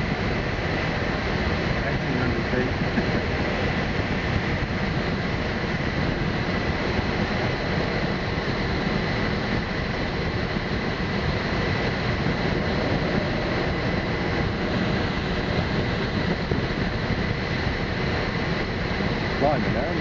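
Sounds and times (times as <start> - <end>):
plane engine drone: 0.0 - 20.0
rush of air around cockpit: 0.0 - 20.0.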